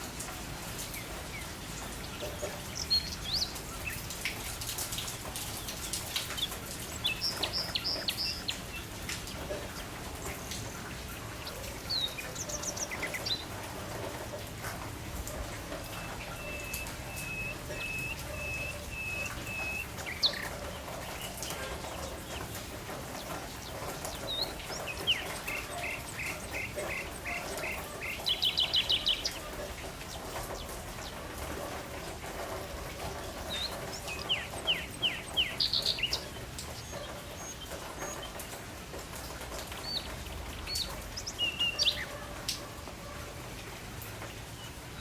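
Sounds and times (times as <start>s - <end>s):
songbirds singing: 0.6s - 14.2s, 15.2s - 38.6s, 39.5s - 43.0s.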